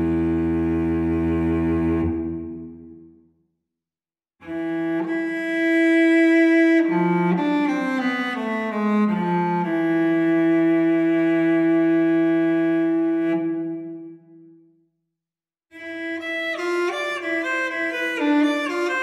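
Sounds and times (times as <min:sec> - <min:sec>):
solo cello: 0:00.0 - 0:03.1, 0:04.4 - 0:14.4, 0:15.8 - 0:19.0.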